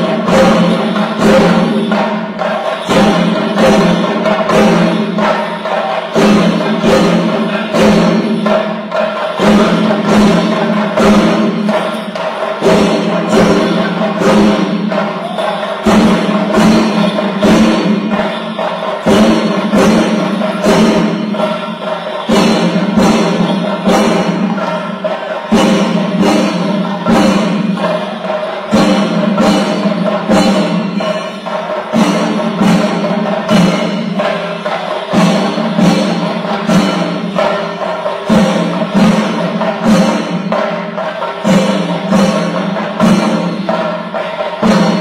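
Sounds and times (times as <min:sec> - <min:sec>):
fast drum beat: 0:00.0 - 0:45.0.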